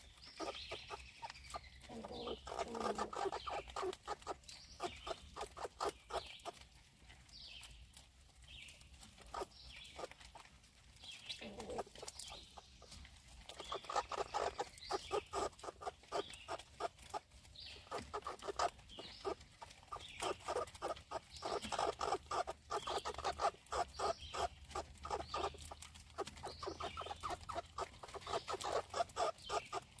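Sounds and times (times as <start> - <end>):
bird chirps: 0.0 - 6.6, 11.0 - 30.0
animal clicks and chatters: 0.0 - 30.0.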